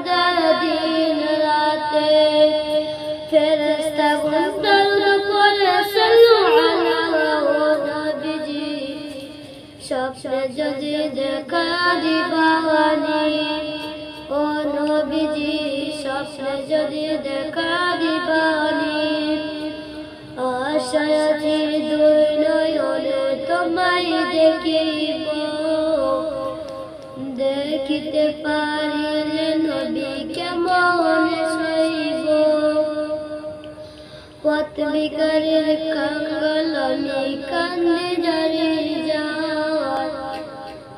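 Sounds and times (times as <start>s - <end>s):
boy singing devotional song: 0.0s - 40.9s.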